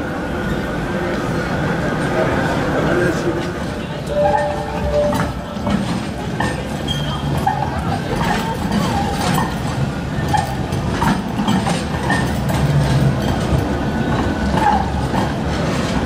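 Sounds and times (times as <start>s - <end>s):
tram rolling on tracks: 0.0s - 16.0s.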